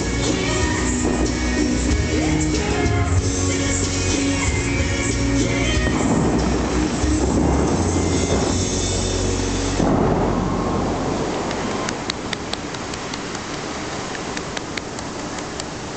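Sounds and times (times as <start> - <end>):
fountain water jets rushing: 0.0 - 15.9.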